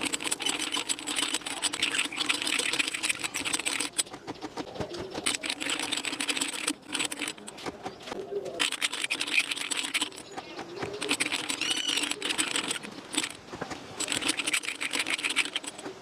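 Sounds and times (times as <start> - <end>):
gears and chain clicking and rattling: 0.0 - 16.0.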